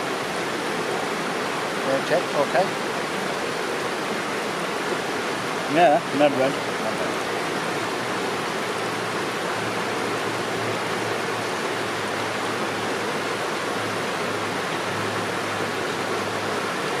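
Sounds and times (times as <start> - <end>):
fast-flowing river: 0.0 - 17.0.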